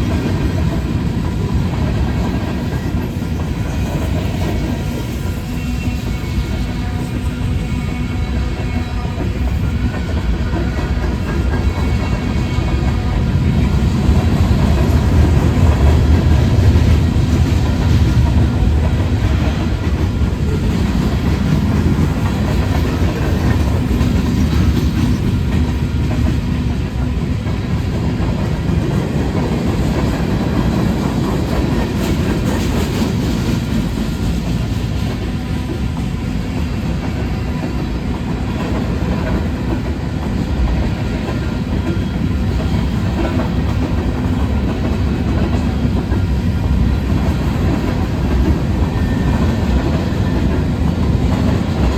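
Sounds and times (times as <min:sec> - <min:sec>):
clickety-clack from track: 0:00.0 - 0:51.9
freight train wheels rumbling: 0:00.0 - 0:51.9.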